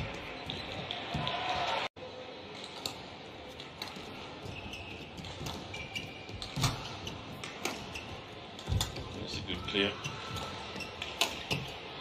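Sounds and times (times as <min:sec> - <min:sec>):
court shoes squeaking: 0:00.0 - 0:01.8, 0:02.6 - 0:12.0.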